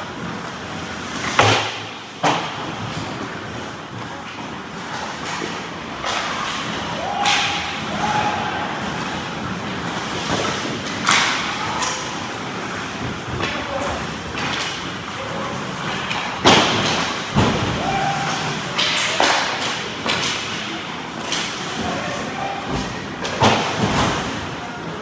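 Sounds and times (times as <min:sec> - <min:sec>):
pucks and players hitting boards: 0:01.1 - 0:03.4, 0:04.2 - 0:25.0.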